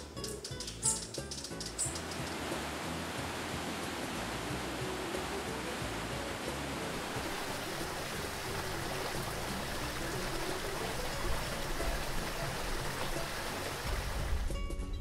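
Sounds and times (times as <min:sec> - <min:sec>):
waterfall and stream rushing over rocks: 0:01.9 - 0:14.5.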